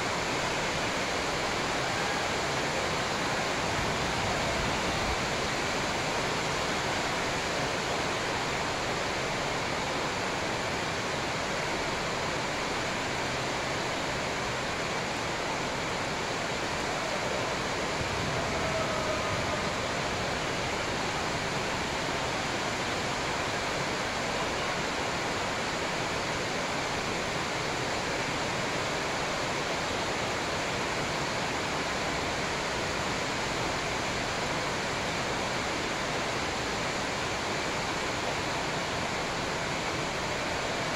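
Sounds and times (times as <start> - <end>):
steady rushing hiss: 0.0 - 40.9.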